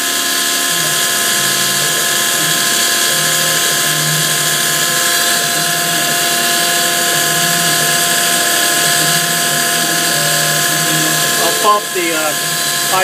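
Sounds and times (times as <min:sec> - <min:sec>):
milling machine high whine: 0:00.0 - 0:13.0
noisy belt drive: 0:00.0 - 0:13.0
low hum: 0:00.3 - 0:13.0.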